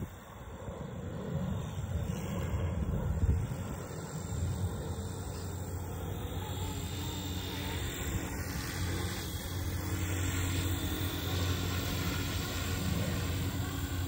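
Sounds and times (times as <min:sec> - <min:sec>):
rc helicopter rotor hum: 0:00.0 - 0:14.0.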